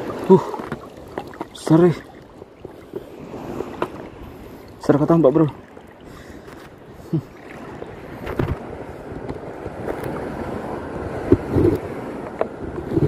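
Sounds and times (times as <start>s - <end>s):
small waves washing ashore: 0.0s - 13.0s
wind buffeting microphone: 0.0s - 13.0s.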